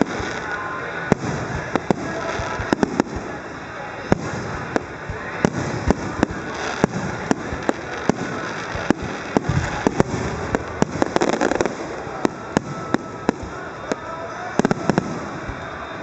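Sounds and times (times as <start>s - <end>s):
crackling pops: 0.0s - 3.4s, 4.1s - 15.8s
fireworks bursting bangs: 0.0s - 16.0s.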